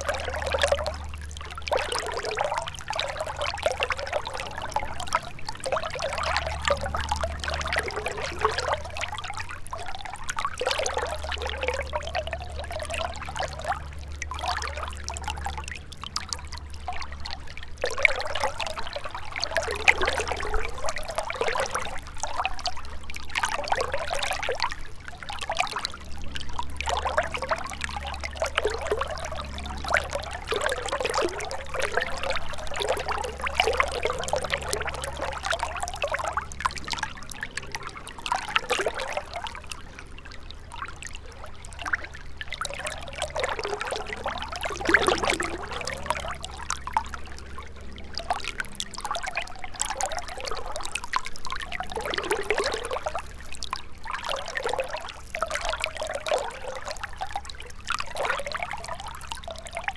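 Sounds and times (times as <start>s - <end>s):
low rumble: 0.0s - 54.1s
river water trickling and burbling: 0.0s - 59.9s.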